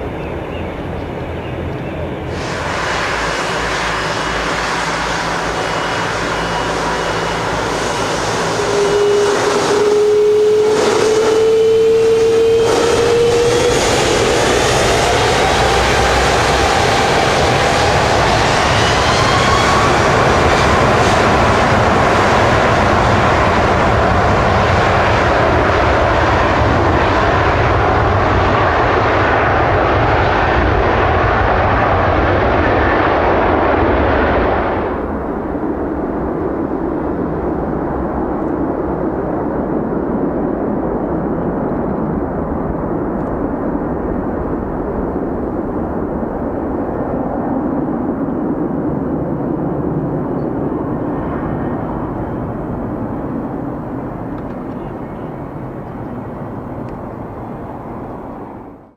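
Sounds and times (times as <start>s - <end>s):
jet engines roaring: 0.0s - 58.9s
rising jet whine: 2.1s - 58.9s.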